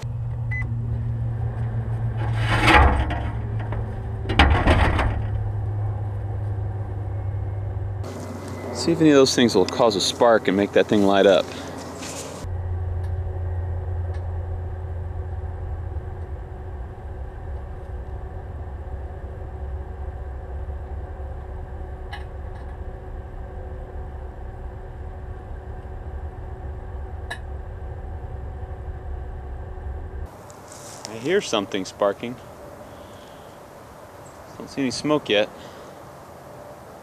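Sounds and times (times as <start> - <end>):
microwave oven humming: 0.0 - 30.4.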